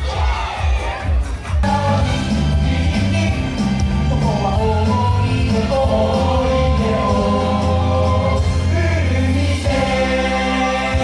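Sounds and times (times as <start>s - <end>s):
steady bass line: 0.0s - 11.0s
voices singing held notes: 0.0s - 11.0s.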